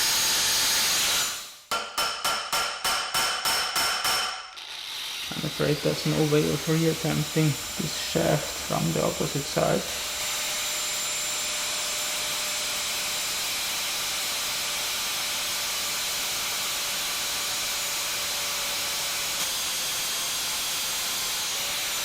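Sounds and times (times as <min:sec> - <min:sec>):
angle grinder cutting steel: 0:00.0 - 0:01.6, 0:04.0 - 0:22.0.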